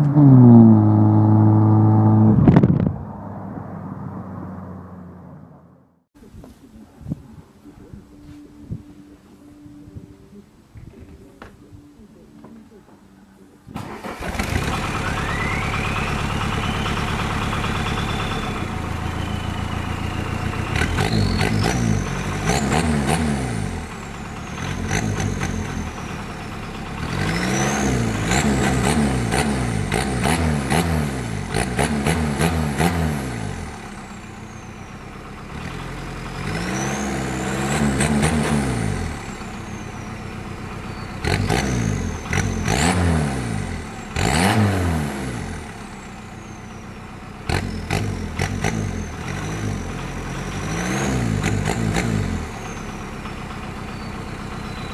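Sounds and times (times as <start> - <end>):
car engine idling and revving: 0.0 - 6.1, 13.4 - 54.9
high engine whine: 0.0 - 54.9.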